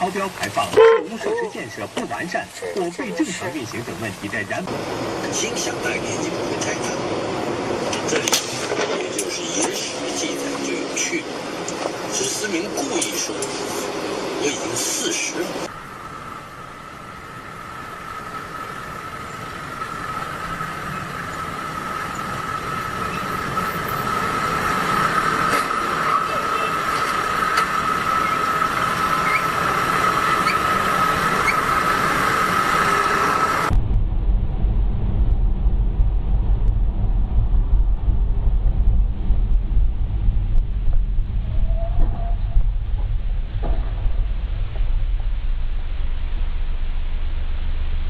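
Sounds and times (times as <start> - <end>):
vehicle rumble with high whine: 0.0 - 48.0.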